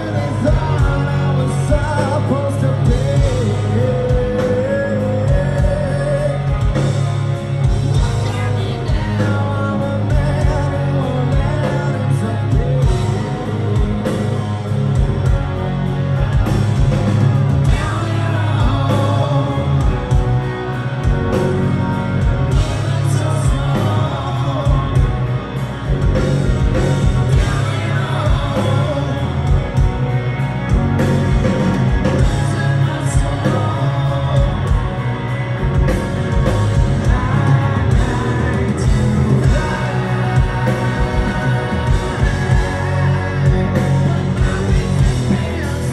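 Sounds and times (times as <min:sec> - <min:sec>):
man singing: 0:00.0 - 0:15.4, 0:17.6 - 0:45.9
bass: 0:00.0 - 0:45.9
distorted electric guitars: 0:00.0 - 0:45.9
drums: 0:00.0 - 0:45.9.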